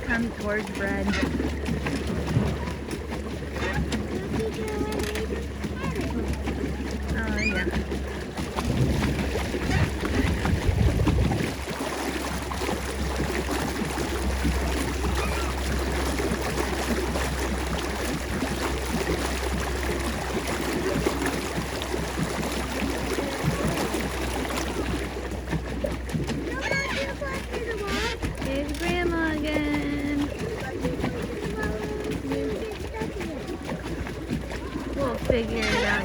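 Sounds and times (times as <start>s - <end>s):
paddle wheel splashing water: 0.0s - 36.0s.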